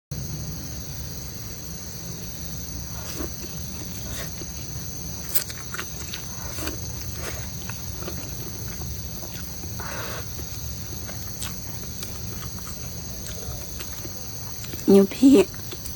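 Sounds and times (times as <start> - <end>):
crickets chirping: 0.1 - 15.9.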